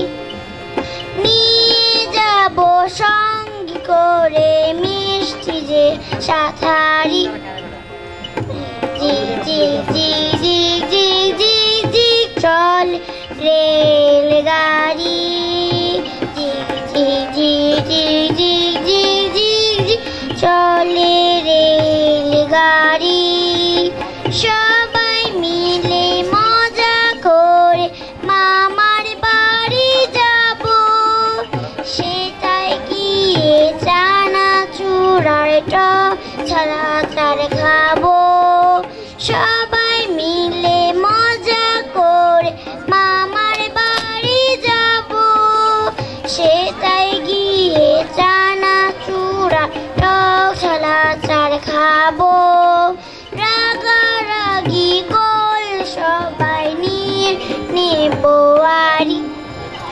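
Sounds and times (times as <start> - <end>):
girl singing into a microphone: 0.0 - 7.5, 8.4 - 59.6
harmonium: 0.0 - 59.9
tabla: 0.0 - 59.9.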